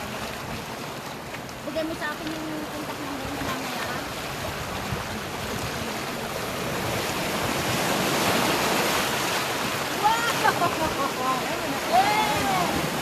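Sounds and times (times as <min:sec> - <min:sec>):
sea waves washing on shore: 0:00.0 - 0:13.0
wind: 0:00.0 - 0:13.0.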